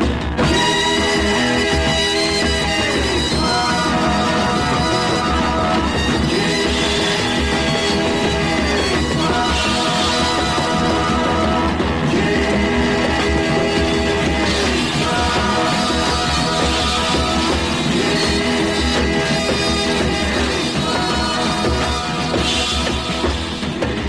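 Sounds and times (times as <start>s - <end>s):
psychedelic rock band playing: 0.0s - 24.0s.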